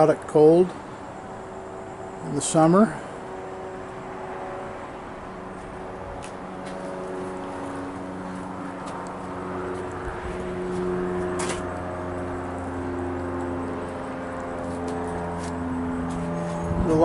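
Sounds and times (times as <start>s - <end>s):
vehicle humming tones: 0.0s - 17.0s.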